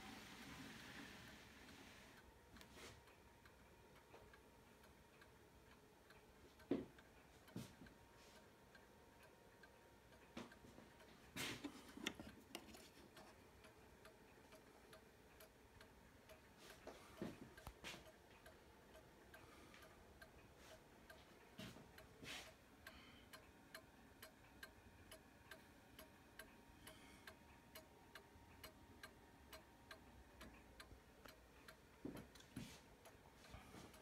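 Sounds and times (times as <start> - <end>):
clock ticking: 1.7 - 34.0.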